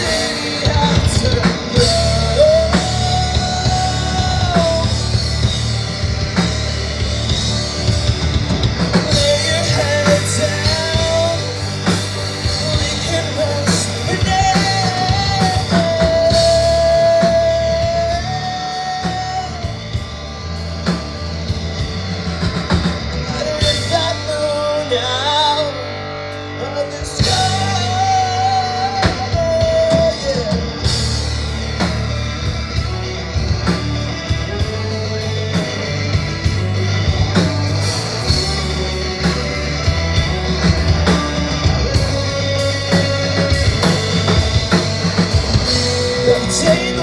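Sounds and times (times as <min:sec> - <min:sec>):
drum kit: 0:00.0 - 0:25.6, 0:27.1 - 0:47.0
electric guitar: 0:00.0 - 0:47.0.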